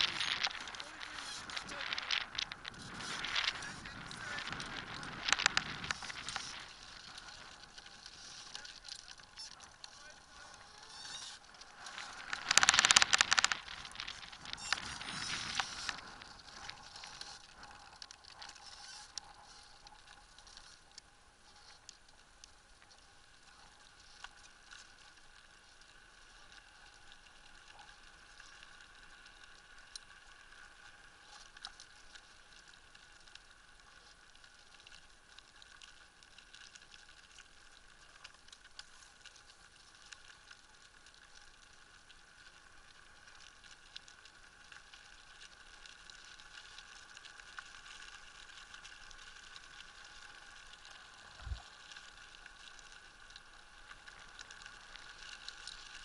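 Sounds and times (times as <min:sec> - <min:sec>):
light ticks and rattles: 0:00.0 - 0:56.0
wheels rolling on tarmac: 0:00.0 - 0:56.0.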